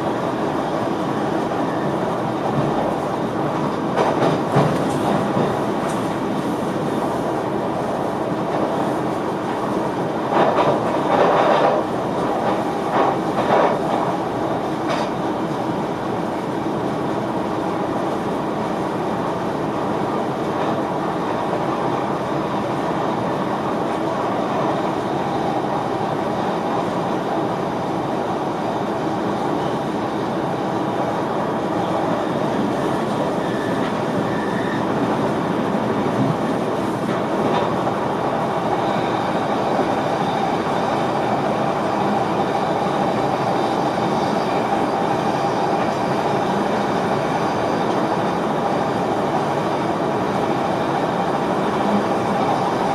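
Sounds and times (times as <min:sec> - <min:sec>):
train wheels on rails: 0:00.0 - 0:52.9.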